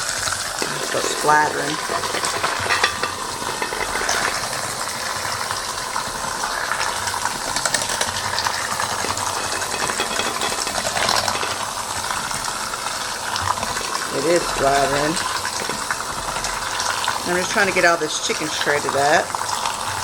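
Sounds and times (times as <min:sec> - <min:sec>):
electric hand mixer running: 0:00.0 - 0:20.0.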